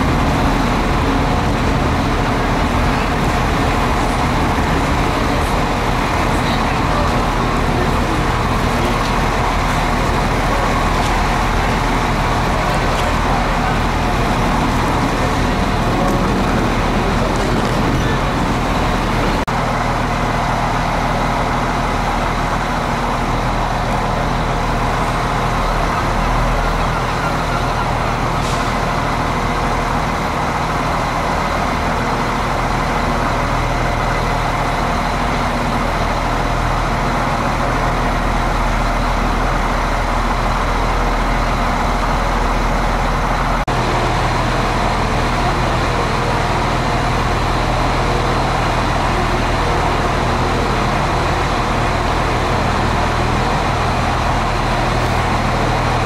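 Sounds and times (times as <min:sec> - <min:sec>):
train engine idling: 0:00.0 - 0:56.0.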